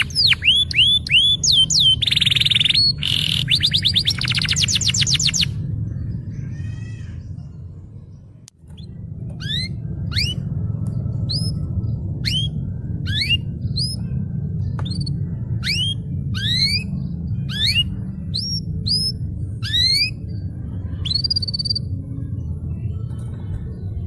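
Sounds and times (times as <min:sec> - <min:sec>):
canary singing chirps: 0:00.0 - 0:22.5
steady low hum: 0:00.0 - 0:24.0.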